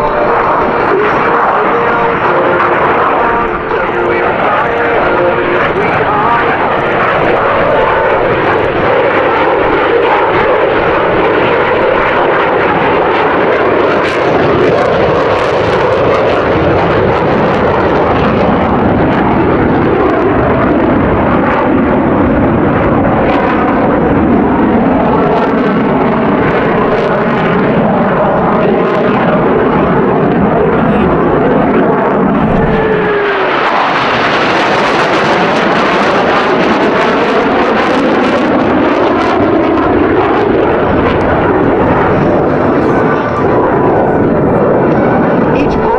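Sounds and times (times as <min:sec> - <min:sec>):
aircraft flying low overhead: 0:00.0 - 0:45.9.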